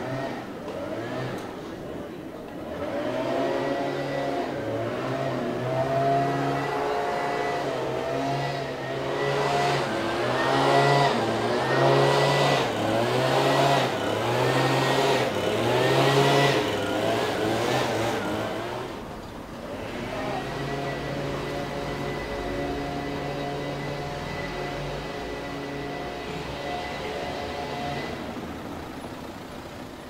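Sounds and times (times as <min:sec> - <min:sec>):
small engine revving: 0:00.0 - 0:01.9, 0:02.5 - 0:30.0.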